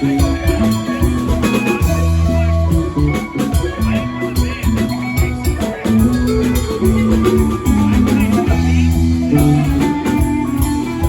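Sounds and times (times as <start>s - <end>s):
live band instrumental music: 0.0s - 11.0s.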